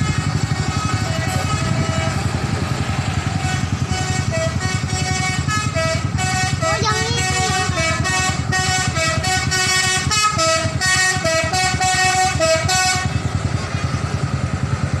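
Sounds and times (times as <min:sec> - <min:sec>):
bus horn playing a tune: 0:00.0 - 0:13.9
bus engine running: 0:00.0 - 0:15.0.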